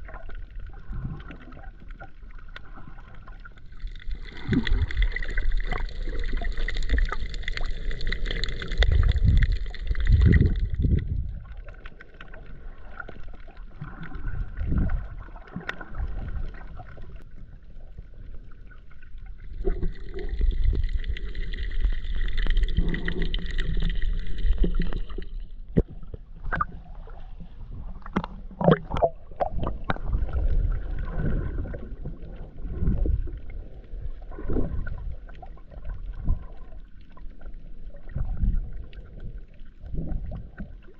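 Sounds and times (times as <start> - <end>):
underwater rumble and sloshing: 0.0 - 40.9.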